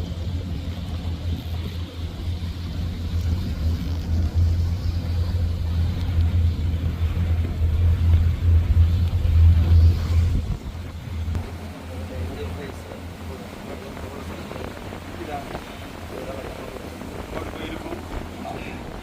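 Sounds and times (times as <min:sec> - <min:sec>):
boat engine rumbling: 0:00.0 - 0:19.0
wind buffeting microphone: 0:00.0 - 0:19.0.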